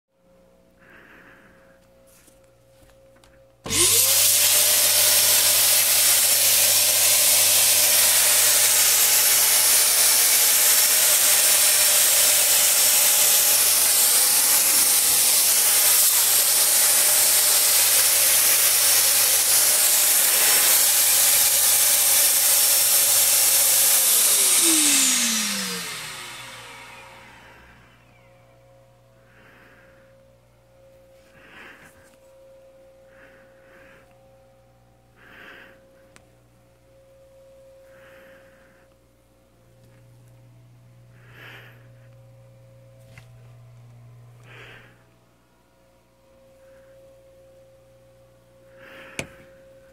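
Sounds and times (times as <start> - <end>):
fogger blower motor whining: 2.2 - 32.3, 37.8 - 49.9.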